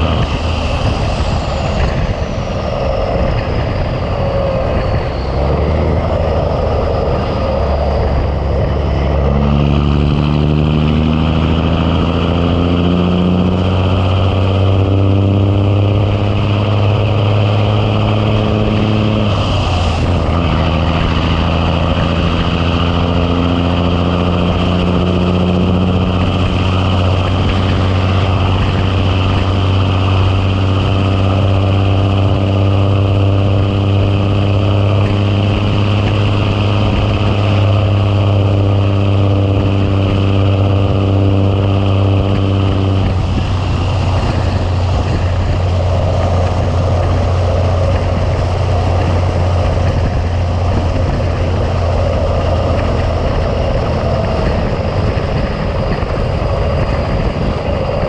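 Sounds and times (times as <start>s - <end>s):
diesel truck engine pulling under load: 0.0s - 58.0s.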